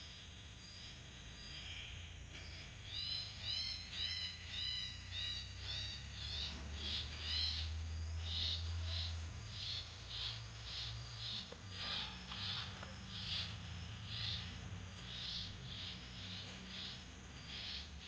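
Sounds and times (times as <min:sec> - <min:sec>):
low steady hum: 0:00.0 - 0:18.0
bird chirping: 0:00.3 - 0:18.0.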